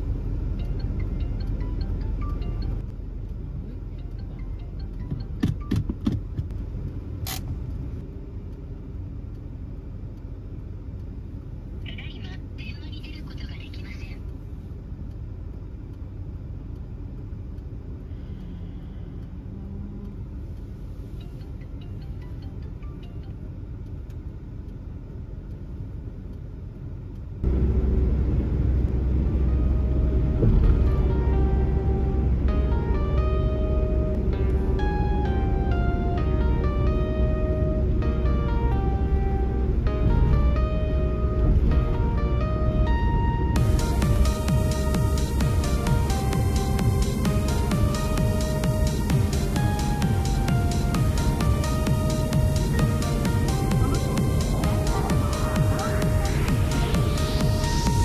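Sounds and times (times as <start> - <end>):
motor vehicle rumble: 0.0 - 58.0.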